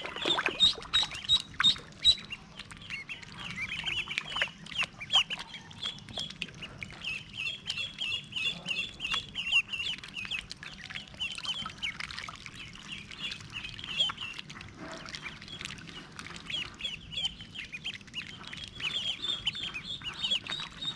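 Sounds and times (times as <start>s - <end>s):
small splashes in water: 0.0s - 8.0s, 8.8s - 20.9s
ducklings peeping: 0.0s - 20.9s.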